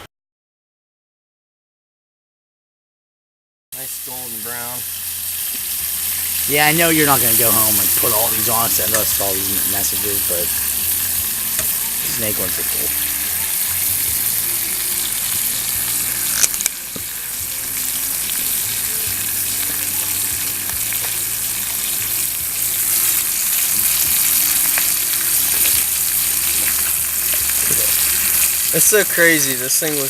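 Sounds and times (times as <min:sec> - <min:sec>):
meat sizzling in a pan: 0:03.8 - 0:30.0.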